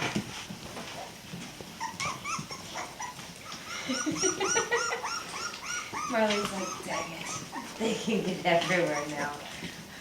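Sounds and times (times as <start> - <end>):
puppies growling: 0.7 - 10.0
puppies squeaking and yipping: 0.8 - 9.6.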